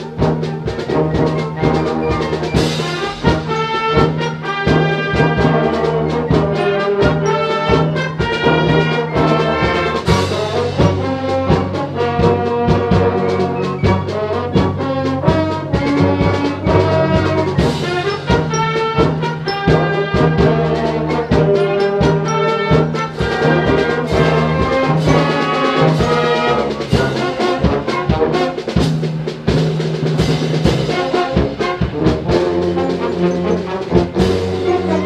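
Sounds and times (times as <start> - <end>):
wind band playing: 0.0 - 35.0.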